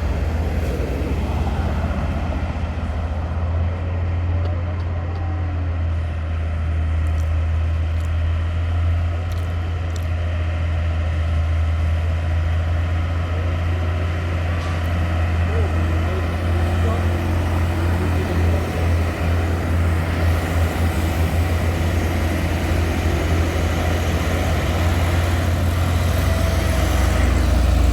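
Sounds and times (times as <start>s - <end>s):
truck diesel engine droning: 0.0s - 27.9s.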